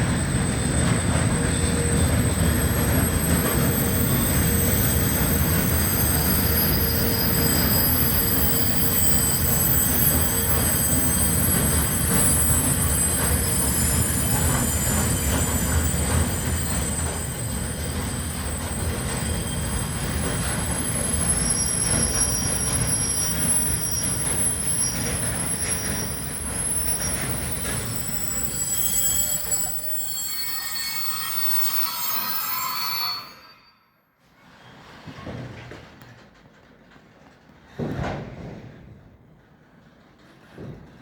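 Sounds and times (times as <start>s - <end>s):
rumble of train wagons: 0.0s - 33.5s, 34.7s - 41.0s
train brakes squealing: 0.0s - 35.3s.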